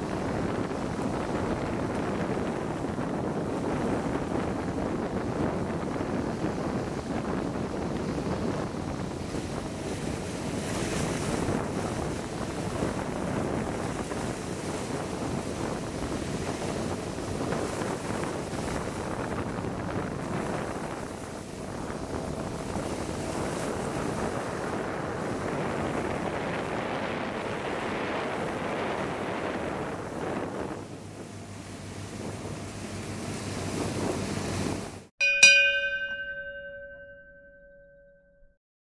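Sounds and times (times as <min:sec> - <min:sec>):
wind buffeting microphone: 0:00.0 - 0:37.6
water rushing along boat hull: 0:00.0 - 0:38.0.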